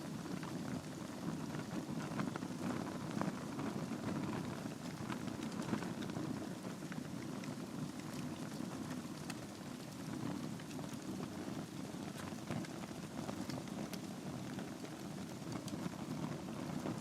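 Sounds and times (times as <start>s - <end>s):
logs crackling and popping: 0.0s - 17.0s
fire flames rushing: 0.1s - 17.0s.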